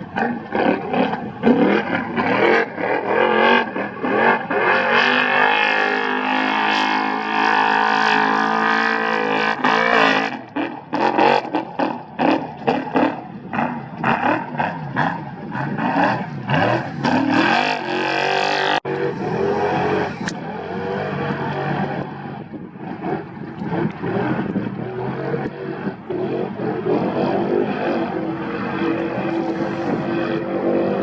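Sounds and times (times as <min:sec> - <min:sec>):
high-revving race engine: 0:00.0 - 0:31.0.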